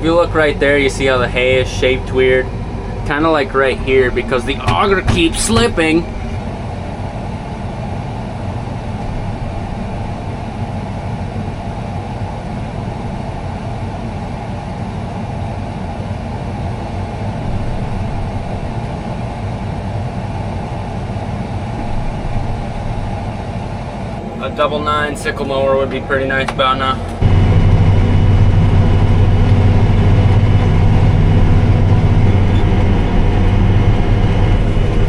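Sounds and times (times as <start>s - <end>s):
tractor engine droning: 0.0s - 35.0s.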